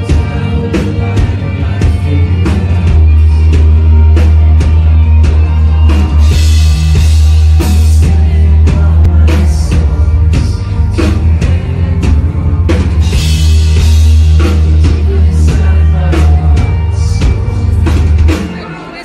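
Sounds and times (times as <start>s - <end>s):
heavy bass: 0.0s - 19.0s
live rock band playing: 0.0s - 19.0s
person singing: 0.0s - 19.0s.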